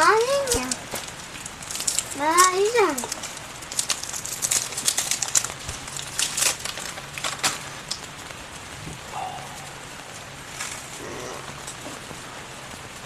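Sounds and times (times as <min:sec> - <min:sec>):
crackling rain taps: 0:00.0 - 0:13.0
heavy rain on a tent: 0:00.0 - 0:13.0.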